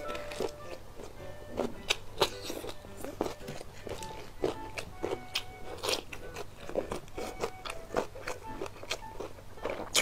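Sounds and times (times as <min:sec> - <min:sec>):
close chewing with wet crunches: 0:00.0 - 0:10.0.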